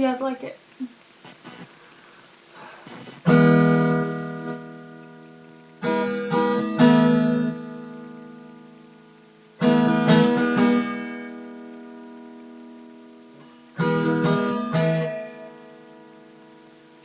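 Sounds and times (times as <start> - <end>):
acoustic guitar strumming: 3.2 - 17.0.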